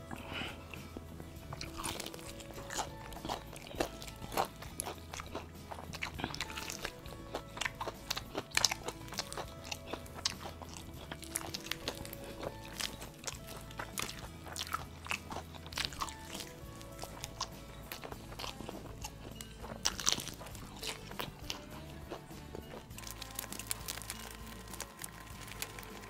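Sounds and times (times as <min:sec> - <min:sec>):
background music: 0:00.0 - 0:26.0
crunchy chicken chewing: 0:00.0 - 0:26.0.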